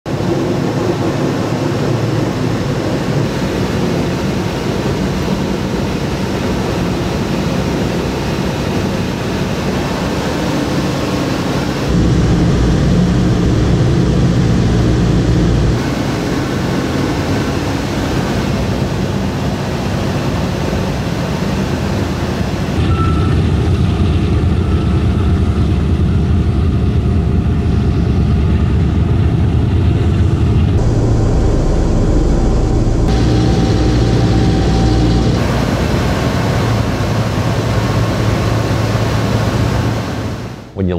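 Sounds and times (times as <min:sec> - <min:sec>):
propeller aircraft engines droning: 0:00.1 - 0:40.9.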